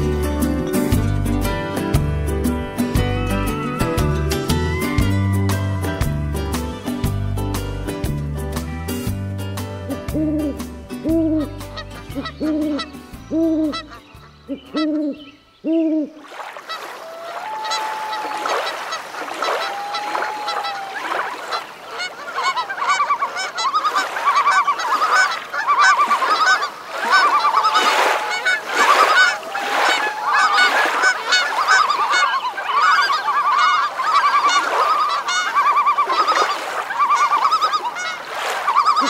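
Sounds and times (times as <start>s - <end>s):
waterbirds calling: 0.0s - 39.0s.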